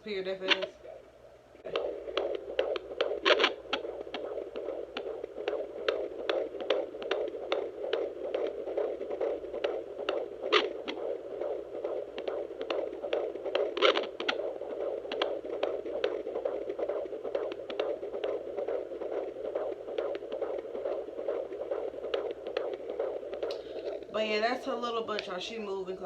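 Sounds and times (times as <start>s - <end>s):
doppler whooshing heartbeat pulses: 1.6s - 26.0s
scratchy bursts: 1.6s - 26.0s.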